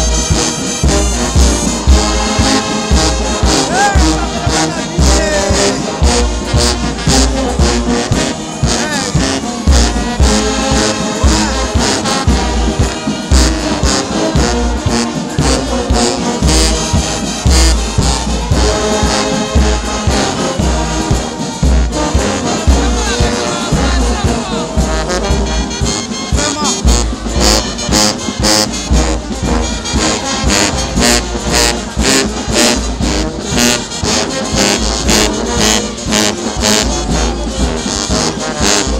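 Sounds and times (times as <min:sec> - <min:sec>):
brass band music: 0:00.0 - 0:38.9
drum beat: 0:00.0 - 0:38.9.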